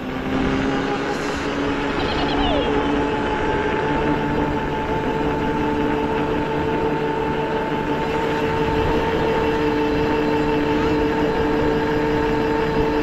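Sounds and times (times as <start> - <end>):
quad bike motor running: 0.0 - 13.0
wind rumbling over microphone: 0.0 - 13.0.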